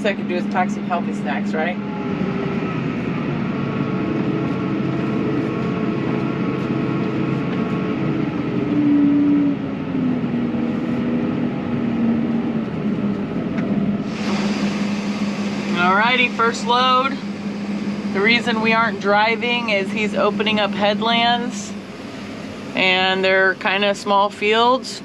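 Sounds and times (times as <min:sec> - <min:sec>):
tractor engine from inside cab: 0:00.0 - 0:08.8, 0:09.6 - 0:25.0.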